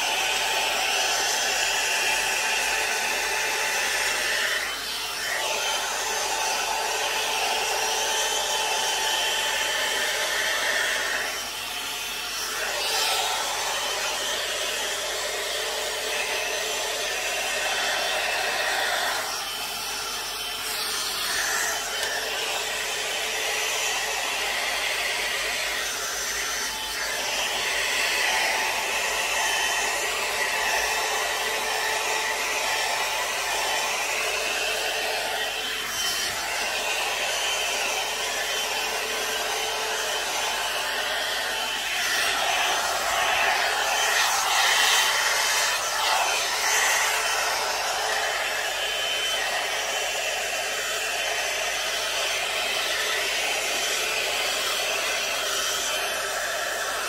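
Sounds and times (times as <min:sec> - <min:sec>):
hot air brush blowing: 0:00.0 - 0:57.0.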